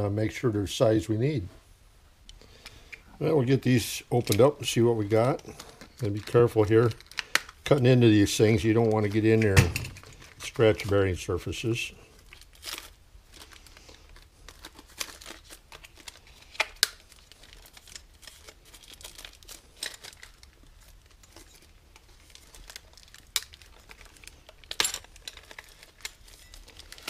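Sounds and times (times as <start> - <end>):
plastic wrapping crinkling and tearing: 3.4 - 27.0.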